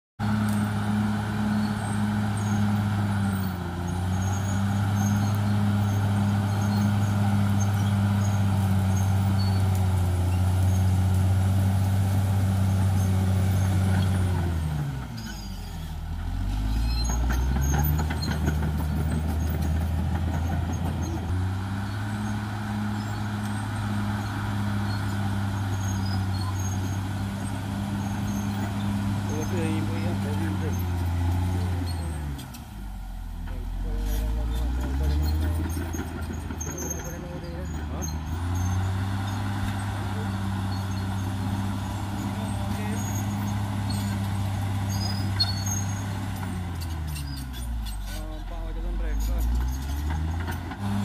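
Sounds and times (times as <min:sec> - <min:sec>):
bulldozer diesel engine: 0:00.2 - 0:51.0.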